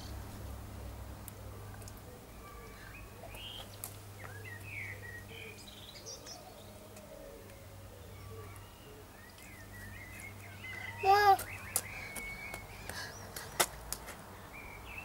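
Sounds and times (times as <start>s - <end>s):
birds chirping: 0.8s - 15.0s.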